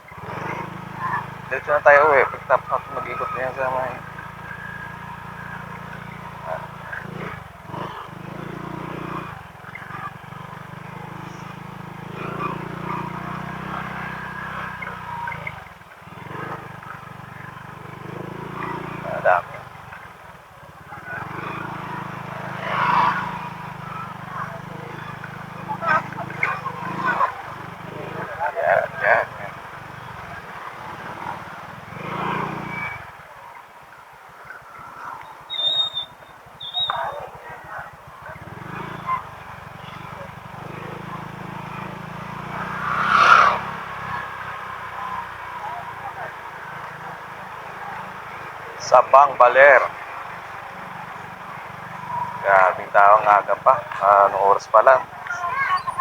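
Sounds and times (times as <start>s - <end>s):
scooter engine running: 0.0s - 56.0s.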